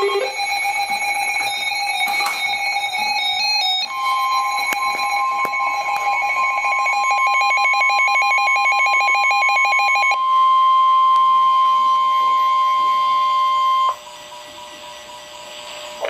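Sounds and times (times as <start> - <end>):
warbling pulsing alarm beep: 0.0 - 14.0.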